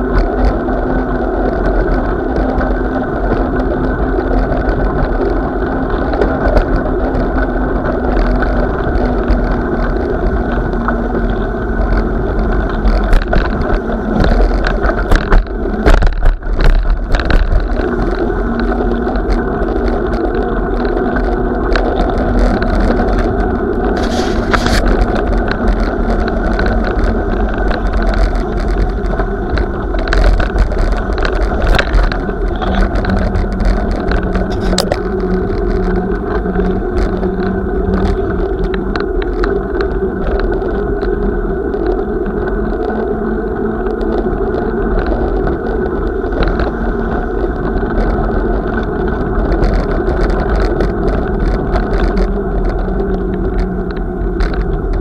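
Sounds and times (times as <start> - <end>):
wheels rolling over icy pavement: 0.0 - 55.0
wind rumble: 0.0 - 55.0.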